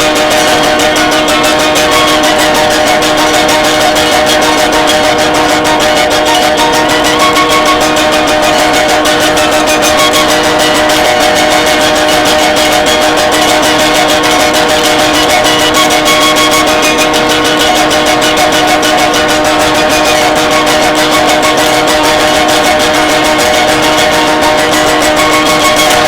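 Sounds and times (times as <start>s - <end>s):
loud guitar music: 0.0s - 26.0s.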